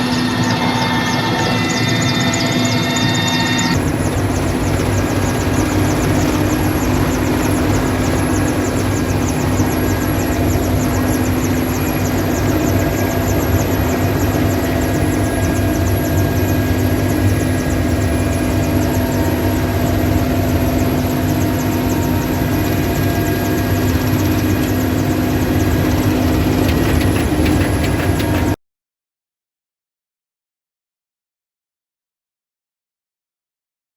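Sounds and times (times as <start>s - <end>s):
helicopter engine and rotor chop: 0.0s - 28.6s.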